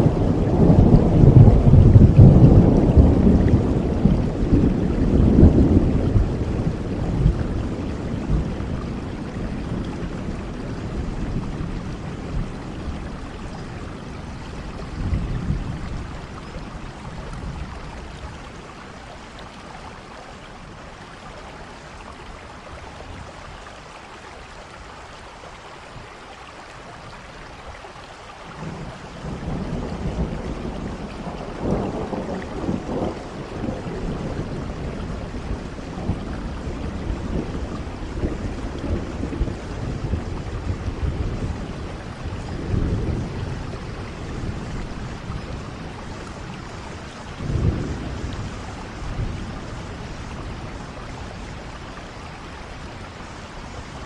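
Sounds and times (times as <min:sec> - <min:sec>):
rolling thunder: 0:00.0 - 0:18.8, 0:28.6 - 0:54.0
steady rain: 0:00.0 - 0:54.0.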